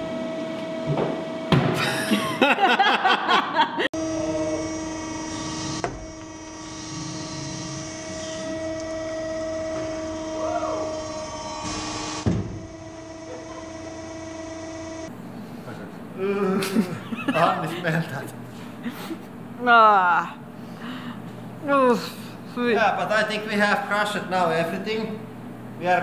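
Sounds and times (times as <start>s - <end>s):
hydraulic machine hum: 0.0s - 22.6s.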